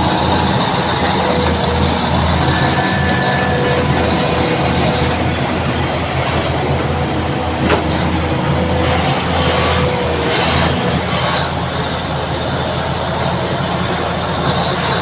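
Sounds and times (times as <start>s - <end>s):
thin whine: 0.0s - 13.2s
bulldozer diesel engine rumbling: 0.0s - 15.0s.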